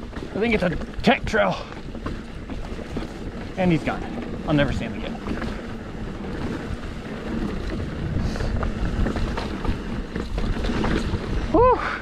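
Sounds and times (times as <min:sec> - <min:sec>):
bike tyres rolling on dirt trail: 0:00.0 - 0:12.0
wind on microphone: 0:00.0 - 0:12.0.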